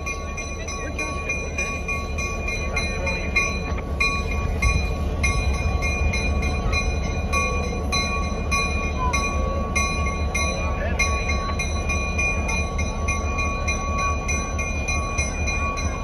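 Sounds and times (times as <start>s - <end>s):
locomotive bell clanging: 0.0s - 16.0s
locomotive engine rumble: 0.0s - 16.0s.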